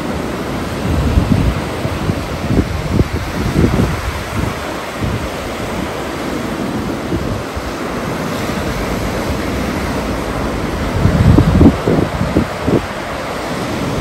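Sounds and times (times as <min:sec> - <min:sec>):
surf breaking on beach: 0:00.0 - 0:14.0
wind rumbling on microphone: 0:00.0 - 0:14.0.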